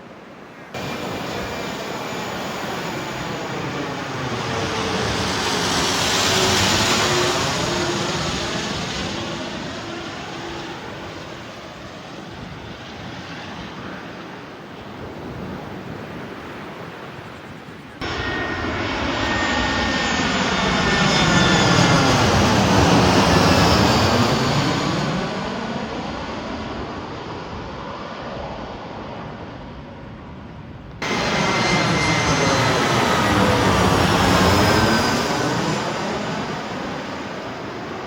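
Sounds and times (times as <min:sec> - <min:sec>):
jet plane passing overhead: 0:00.0 - 0:38.0
falling jet engine whine: 0:00.4 - 0:38.0.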